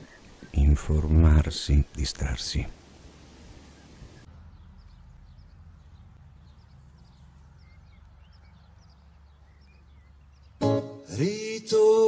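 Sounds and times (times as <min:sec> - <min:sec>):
small birds chirping: 0:00.0 - 0:11.1.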